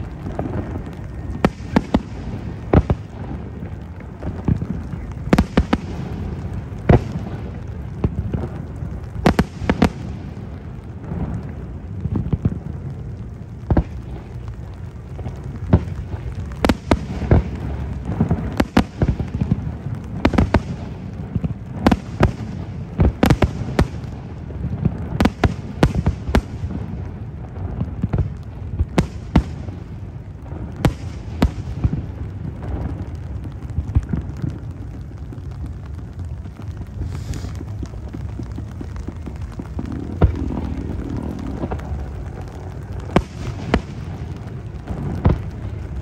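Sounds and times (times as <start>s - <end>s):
fireworks bangs: 0.0s - 46.0s
low rumble of booms: 0.0s - 46.0s.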